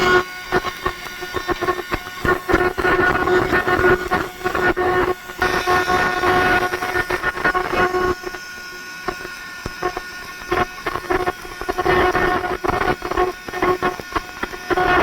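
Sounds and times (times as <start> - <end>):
laser cutting metal buzzing: 0.0 - 15.0.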